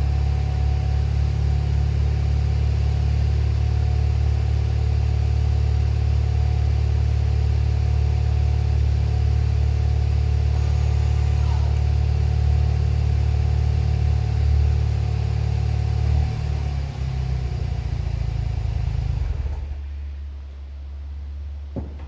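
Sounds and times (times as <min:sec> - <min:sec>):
car engine running steadily: 0:00.0 - 0:22.0.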